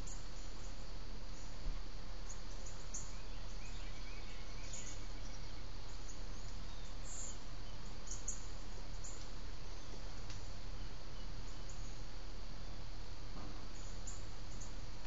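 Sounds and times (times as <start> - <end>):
outdoor hiss and low hum: 0.0 - 15.0.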